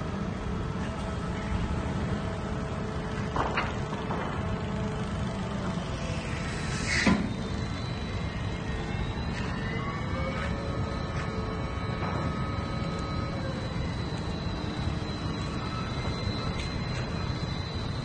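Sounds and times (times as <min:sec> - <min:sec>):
crane machinery rumbling and whining: 0:00.0 - 0:18.0.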